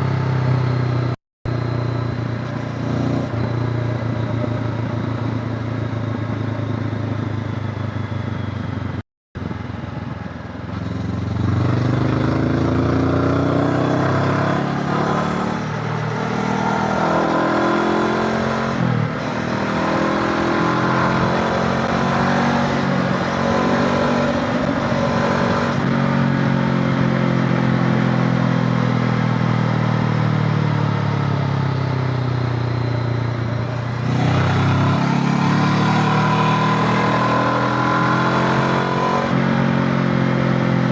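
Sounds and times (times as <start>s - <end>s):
motorcycle engine running: 0.0s - 38.6s.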